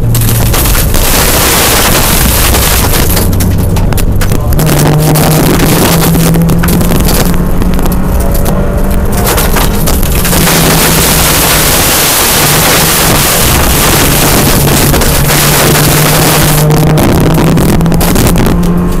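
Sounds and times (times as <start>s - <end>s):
stones crackling underneath: 0.0s - 16.7s
rally car engine pulling hard: 0.0s - 19.0s
tyre and gravel noise: 0.0s - 19.0s.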